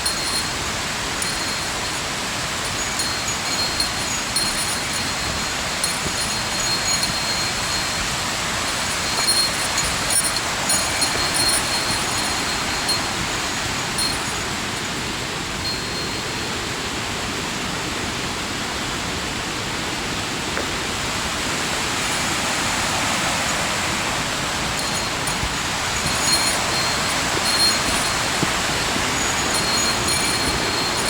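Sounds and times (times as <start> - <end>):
small metal bell tinkling: 0.0 - 17.0, 21.4 - 31.0
mountain stream rushing: 0.0 - 31.0.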